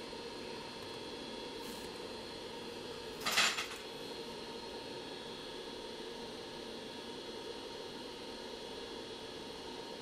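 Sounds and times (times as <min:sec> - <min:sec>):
hot air blower hissing: 0:00.0 - 0:10.0
low mains hum: 0:00.0 - 0:10.0.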